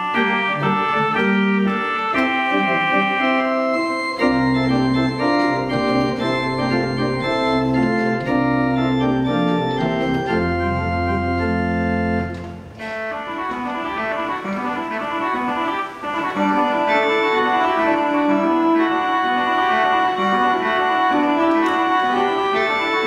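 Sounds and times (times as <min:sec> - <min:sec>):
low organ pedal bass notes: 0:00.0 - 0:23.0
pipe organ chords: 0:00.0 - 0:23.0.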